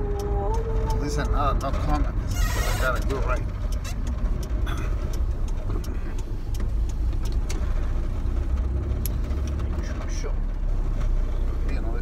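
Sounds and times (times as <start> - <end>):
faint clicks: 0.0 - 9.8
car engine rumble: 0.0 - 12.0
road noise inside car: 0.0 - 12.0.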